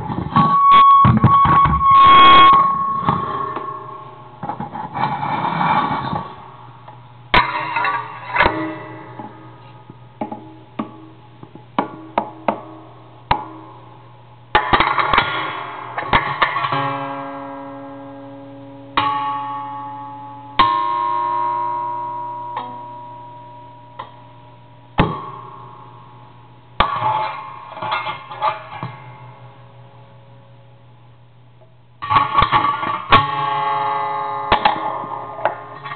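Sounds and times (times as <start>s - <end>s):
guitar-like ringing tones: 0.0s - 31.1s, 32.0s - 35.9s.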